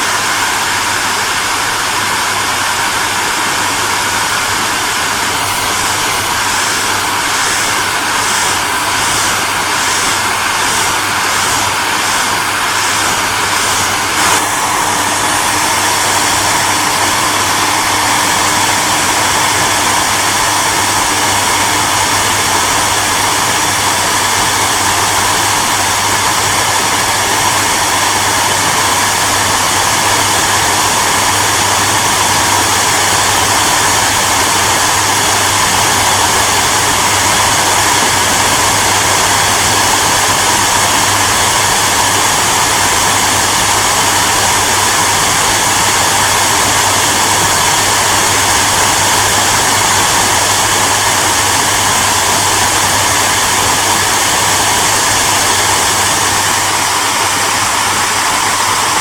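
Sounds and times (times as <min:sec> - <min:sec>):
hairdryer blowing air: 0:00.0 - 0:59.0.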